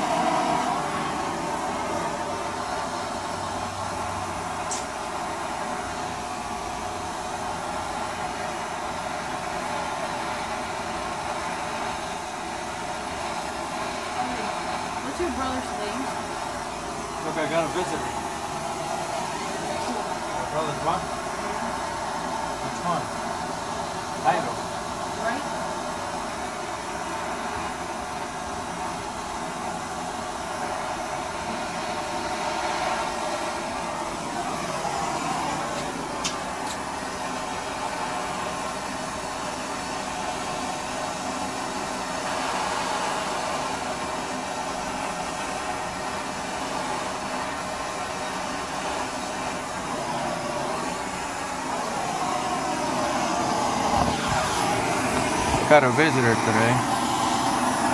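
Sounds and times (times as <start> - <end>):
blowtorch flame hissing: 0.0 - 57.9.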